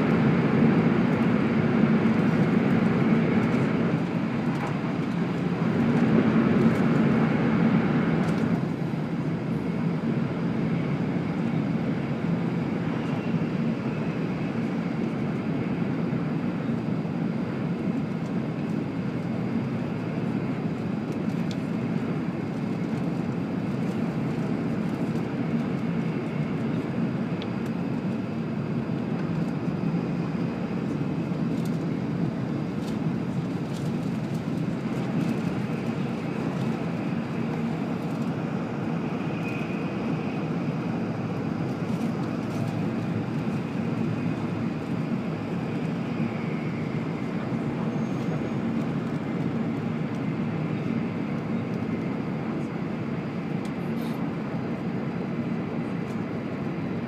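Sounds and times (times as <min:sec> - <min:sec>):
train running at speed inside cabin: 0:00.0 - 0:57.0.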